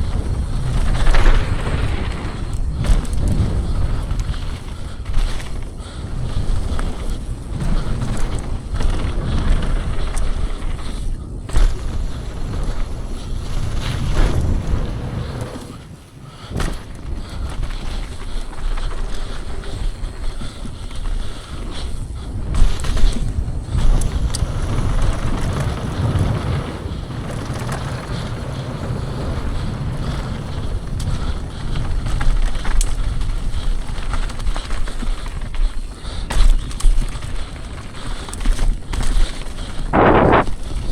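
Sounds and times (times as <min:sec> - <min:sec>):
bike rattling over rough ground: 0:00.0 - 0:40.9
wind buffeting microphone: 0:00.0 - 0:40.9.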